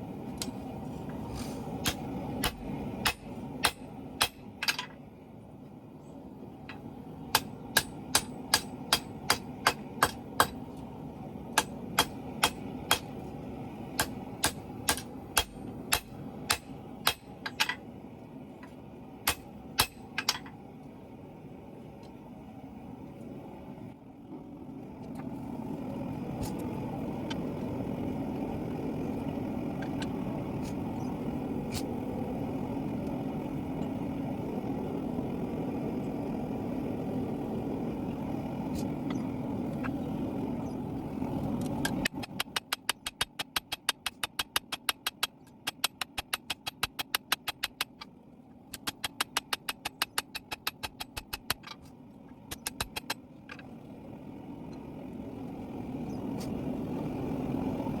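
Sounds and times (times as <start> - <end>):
steady rushing roar: 0.0 - 58.0.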